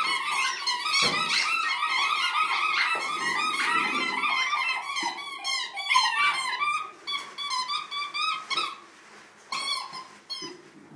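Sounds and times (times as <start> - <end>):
squeaky toy squeaking: 0.0 - 8.8, 9.5 - 10.6.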